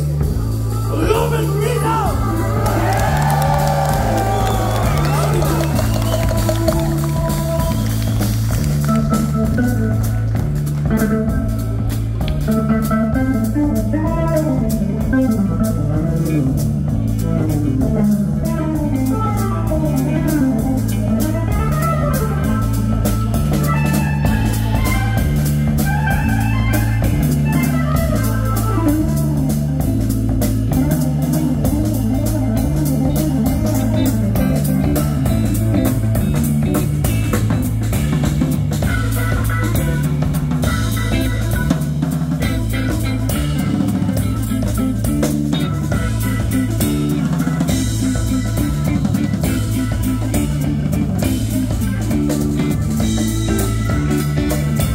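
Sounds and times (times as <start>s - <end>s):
drum kit beat: 0.0s - 54.9s
electric guitar: 0.0s - 54.9s
pulsing bass: 0.0s - 54.9s.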